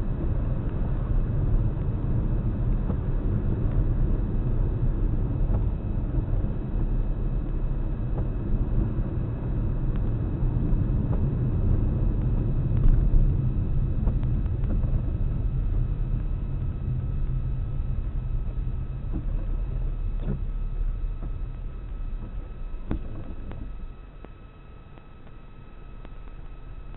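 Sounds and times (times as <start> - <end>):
car road and engine rumble: 0.0 - 26.9.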